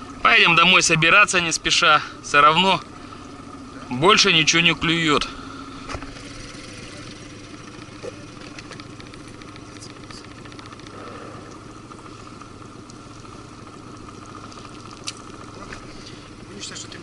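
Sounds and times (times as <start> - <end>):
outboard motor idling: 0.0 - 17.0.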